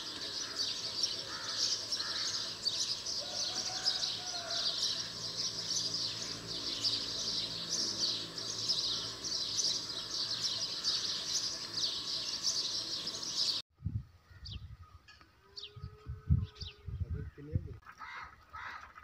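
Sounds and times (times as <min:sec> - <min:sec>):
chorus of small birds chirping: 0:00.0 - 0:13.6, 0:14.3 - 0:18.8.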